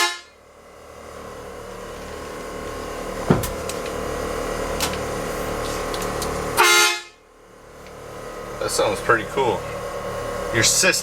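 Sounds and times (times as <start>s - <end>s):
electric air compressor running: 0.1s - 11.0s.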